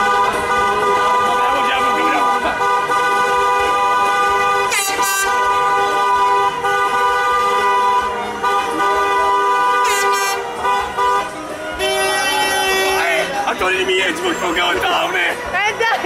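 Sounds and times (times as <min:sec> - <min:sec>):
car horn blaring: 0:00.0 - 0:16.0.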